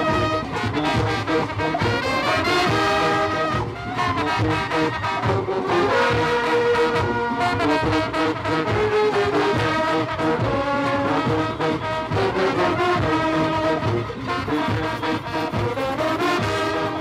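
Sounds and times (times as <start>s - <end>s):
brass band playing lively tune: 0.0s - 17.0s
low thumping drum beats: 0.0s - 17.0s.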